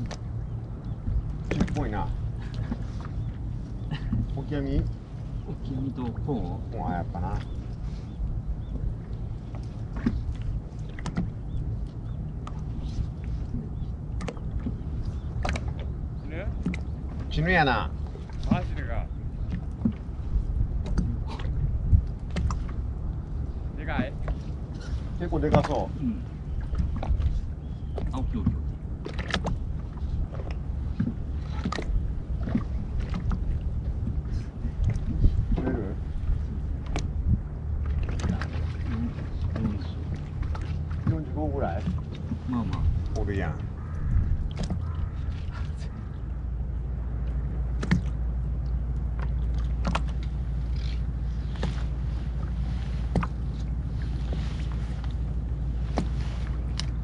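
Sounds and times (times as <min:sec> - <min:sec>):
wind and water rumble: 0:00.0 - 0:57.0.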